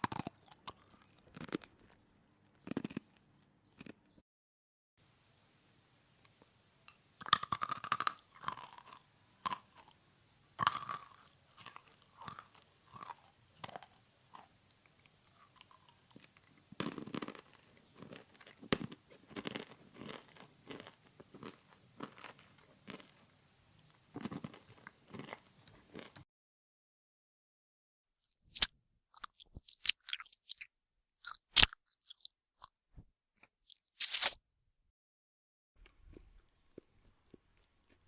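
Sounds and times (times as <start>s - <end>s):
person chewing crunchy food: 0.0s - 4.2s, 7.2s - 26.2s, 28.3s - 32.7s, 33.4s - 34.4s, 35.8s - 38.0s.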